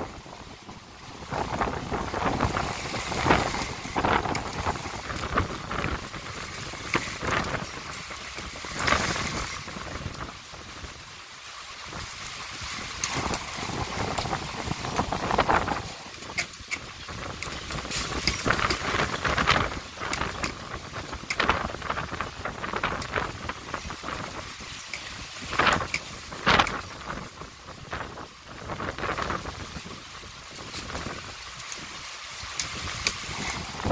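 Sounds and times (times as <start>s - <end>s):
rain hissing: 0.0s - 33.9s
wind gusts: 0.0s - 33.9s.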